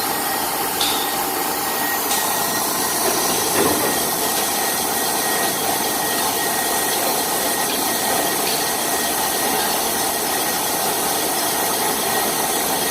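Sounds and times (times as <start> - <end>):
milling machine running: 0.0 - 12.9.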